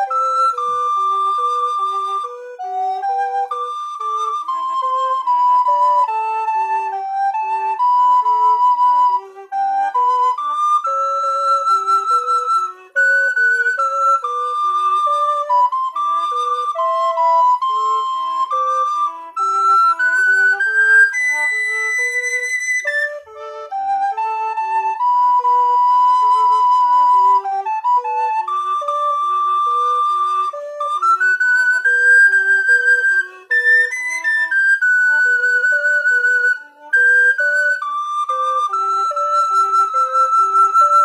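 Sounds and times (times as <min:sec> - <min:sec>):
recorder duet: 0:00.0 - 0:41.0.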